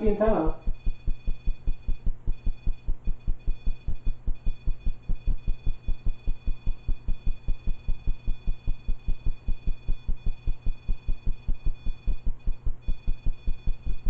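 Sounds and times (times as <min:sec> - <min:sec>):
steady pulsing thump: 0:00.0 - 0:14.0.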